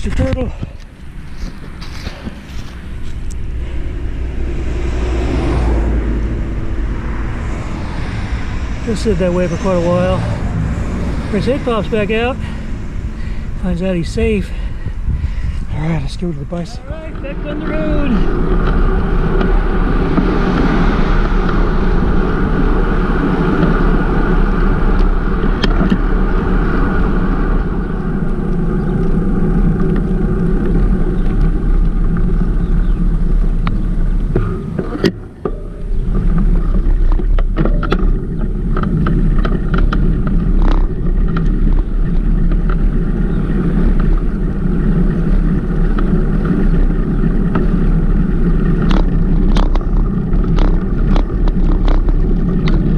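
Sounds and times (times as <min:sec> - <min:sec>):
wind and road rush: 0:00.0 - 0:52.9.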